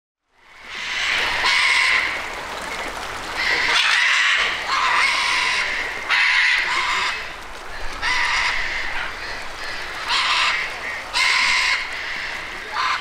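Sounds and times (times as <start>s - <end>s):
parrots squawking: 0.7s - 2.2s, 3.4s - 7.3s, 8.0s - 13.0s.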